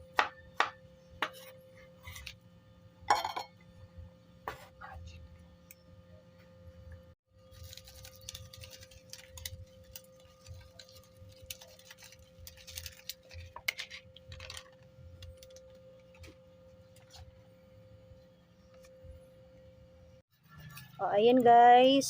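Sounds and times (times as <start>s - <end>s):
faint steady hum: 0.0s - 20.2s.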